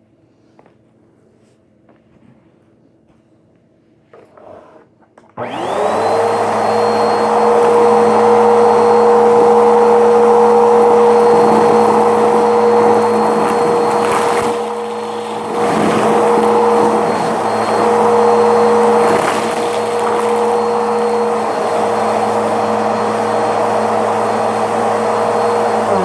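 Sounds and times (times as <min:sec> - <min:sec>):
vacuum cleaner whining: 0:04.3 - 0:26.0.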